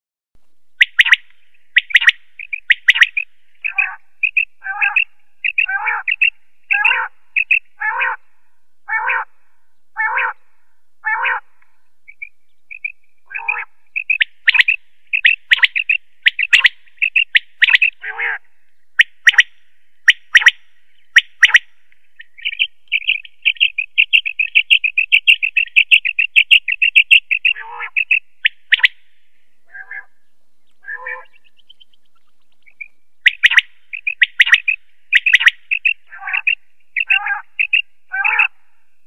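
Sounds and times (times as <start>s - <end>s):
bird calling: 0.8s - 8.3s, 8.9s - 9.3s, 10.0s - 10.4s, 11.0s - 38.8s.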